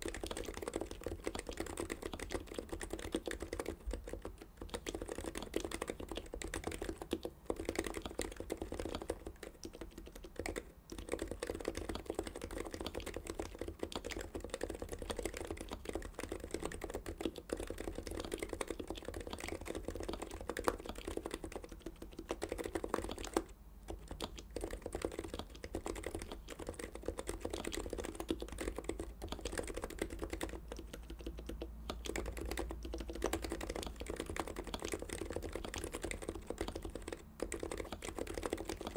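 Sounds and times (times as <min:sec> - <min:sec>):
muted keyboard typing: 0:00.0 - 0:38.9.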